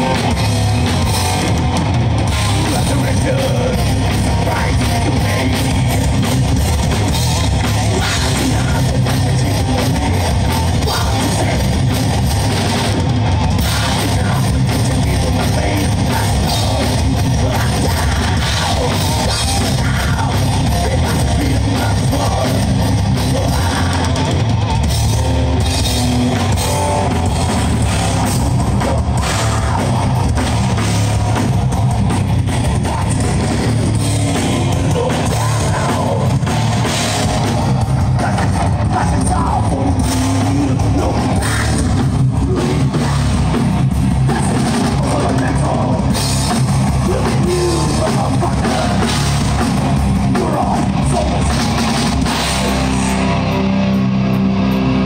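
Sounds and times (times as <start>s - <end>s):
distorted electric guitars: 0.0s - 55.0s
pounding drum kit: 0.0s - 55.0s.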